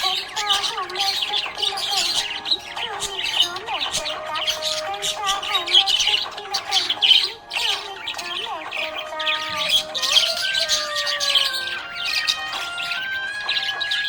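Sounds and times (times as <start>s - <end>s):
background music with held notes: 0.0s - 14.0s
budgies chirping and chattering: 0.0s - 14.0s.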